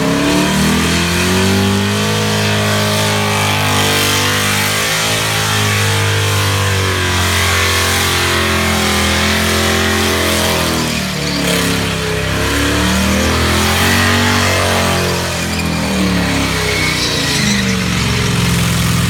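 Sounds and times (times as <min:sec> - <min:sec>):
car engines rumbling and revving: 0:00.0 - 0:19.0.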